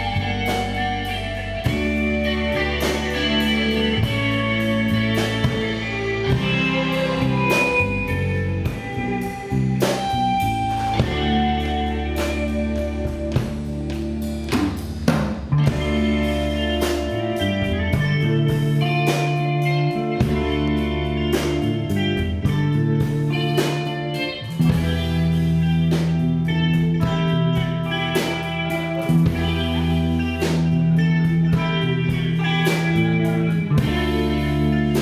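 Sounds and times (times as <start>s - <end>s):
drum and cymbal hits: 0.0s - 35.0s
live rock band playing: 0.0s - 35.0s.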